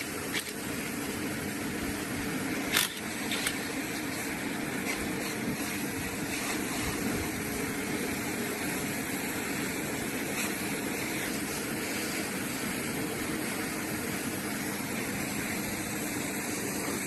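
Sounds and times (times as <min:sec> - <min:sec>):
steady mechanical running noise: 0:00.0 - 0:17.0.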